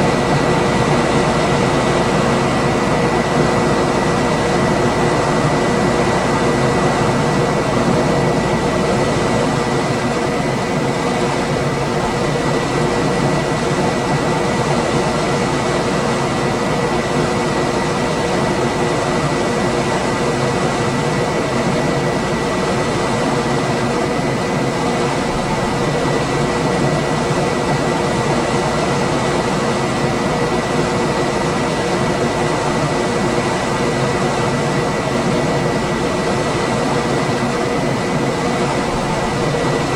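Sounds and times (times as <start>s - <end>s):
air conditioner fan running: 0.0s - 39.9s.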